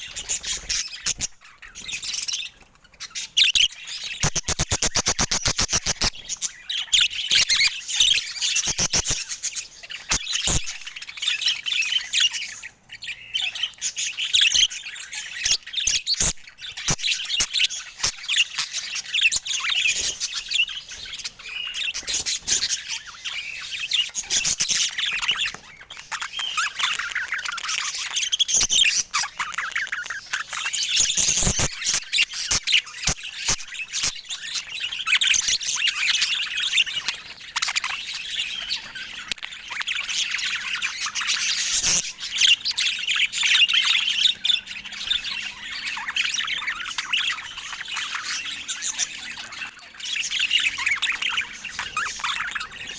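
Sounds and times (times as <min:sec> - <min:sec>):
budgerigars chirping: 0:00.0 - 0:52.9.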